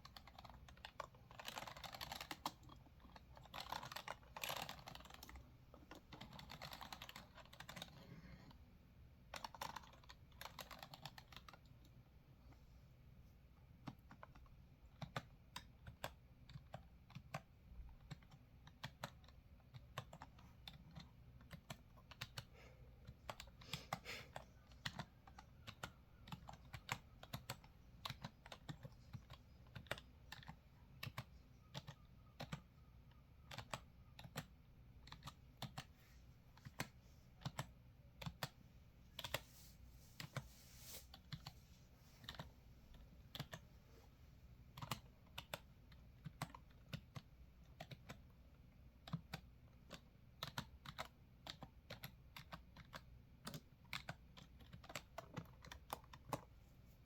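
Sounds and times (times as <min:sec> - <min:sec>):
typing on computer keyboard: 0:00.0 - 0:08.6, 0:09.2 - 0:12.0, 0:13.7 - 0:36.0, 0:36.6 - 0:38.6, 0:42.2 - 0:43.6, 0:44.7 - 0:56.6.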